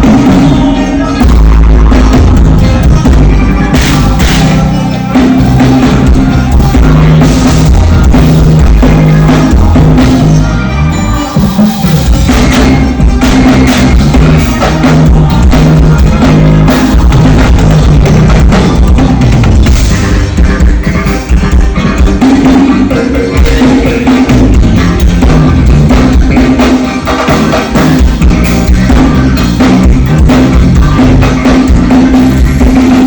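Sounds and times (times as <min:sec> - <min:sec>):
bass sliding in pitch: 0:00.0 - 0:33.0
rock band playing: 0:00.0 - 0:33.0.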